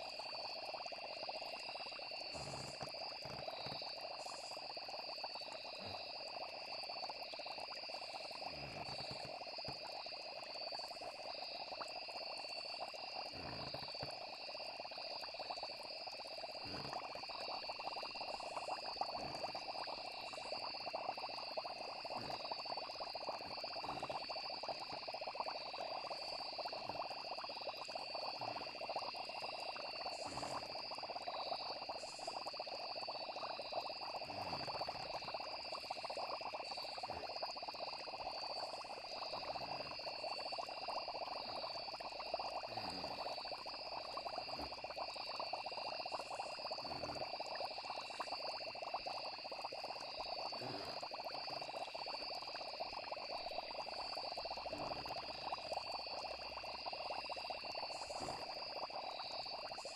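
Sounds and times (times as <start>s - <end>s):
frog chorus: 0.0s - 59.9s
high-pitched insect trills: 0.0s - 59.9s.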